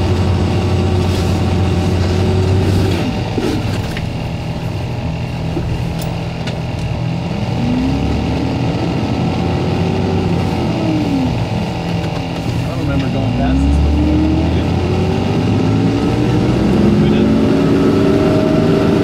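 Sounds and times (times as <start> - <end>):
engine running and revving: 0.0 - 19.0.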